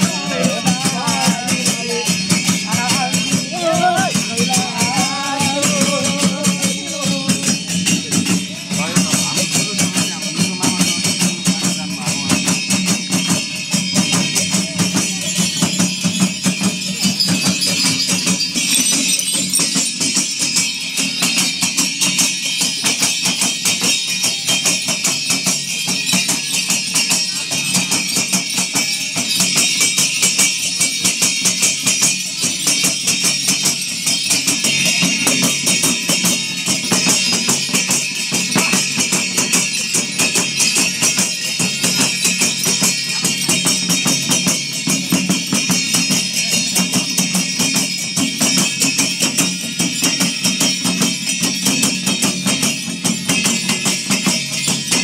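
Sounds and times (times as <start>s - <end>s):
drum beaten fast: 0.0s - 55.0s
metallic jingling bells: 0.0s - 55.0s.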